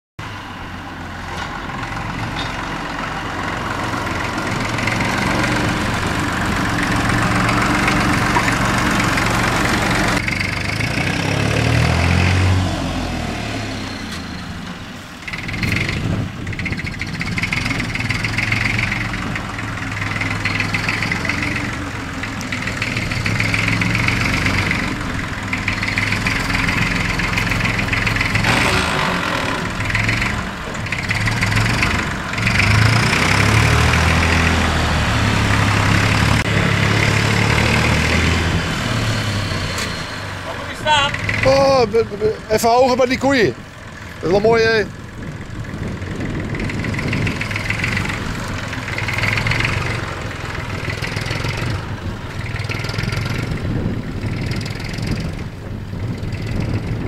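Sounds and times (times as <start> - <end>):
tractor engine running: 0.2 - 57.0.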